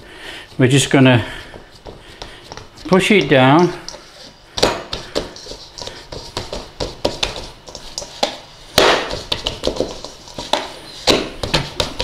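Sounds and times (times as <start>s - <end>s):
hand patting dough in bowl: 0.5s - 12.0s.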